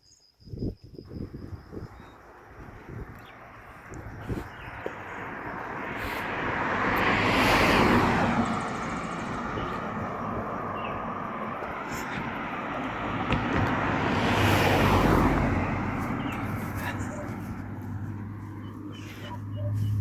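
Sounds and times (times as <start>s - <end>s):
road vehicles passing by: 1.1s - 20.0s.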